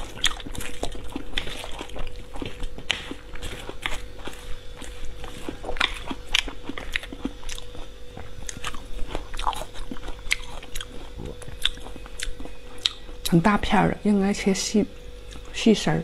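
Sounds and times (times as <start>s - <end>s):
crisp crunching and chewing: 0.0s - 13.4s.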